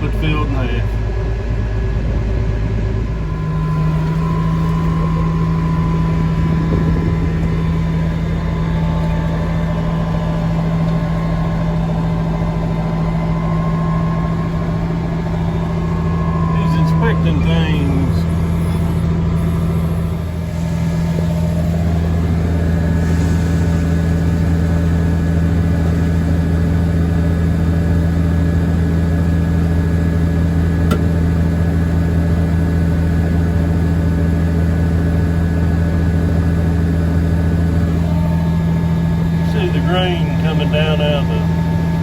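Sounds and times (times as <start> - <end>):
combine harvester engine droning: 0.0 - 42.0.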